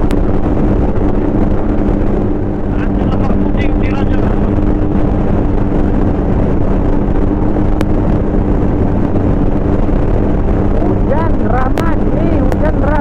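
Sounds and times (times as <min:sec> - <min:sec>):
motorcycle engine droning: 0:00.0 - 0:13.0
wind rushing over microphone: 0:00.0 - 0:13.0.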